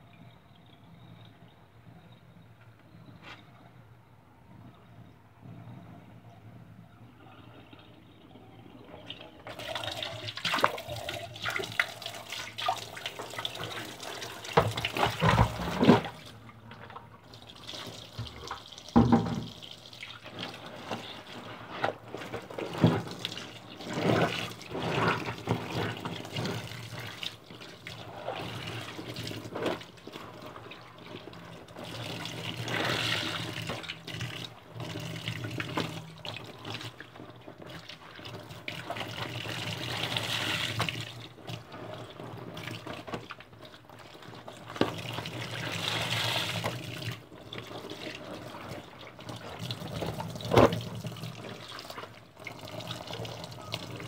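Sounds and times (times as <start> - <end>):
water sloshing and splashing: 8.8 - 54.0.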